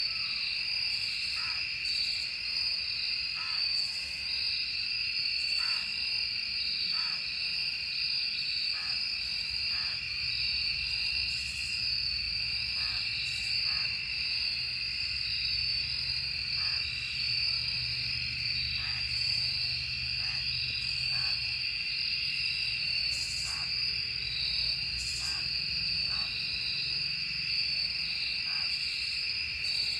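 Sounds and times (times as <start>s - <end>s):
insect chorus trilling: 0.0s - 29.9s.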